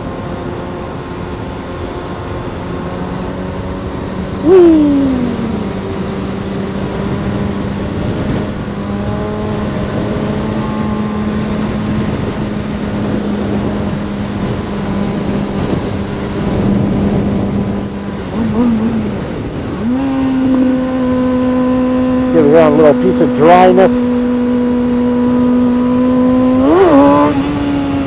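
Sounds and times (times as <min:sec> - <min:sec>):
motorcycle engine cruising: 0:00.0 - 0:28.0
wind on microphone: 0:03.6 - 0:28.0.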